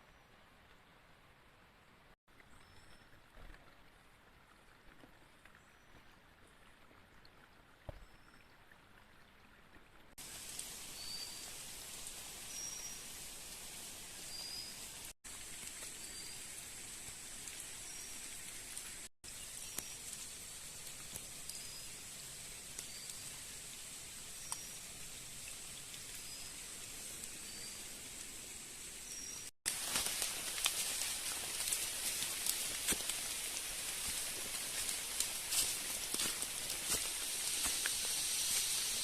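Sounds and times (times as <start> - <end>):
rain falling in forest: 0.0 - 39.0
water drips: 2.3 - 39.0.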